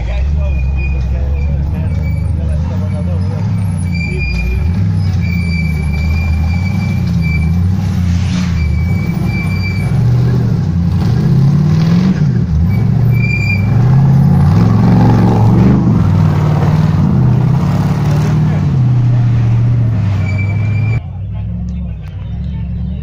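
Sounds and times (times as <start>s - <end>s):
engine revving under load: 0.0s - 23.0s.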